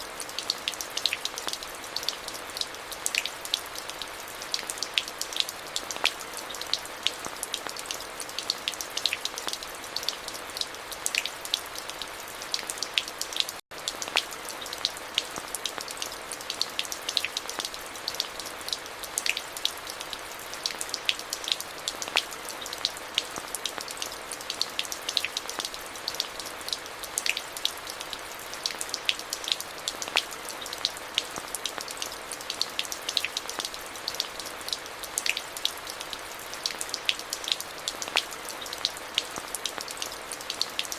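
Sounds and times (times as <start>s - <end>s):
raindrops ticking on a surface: 0.0s - 40.9s.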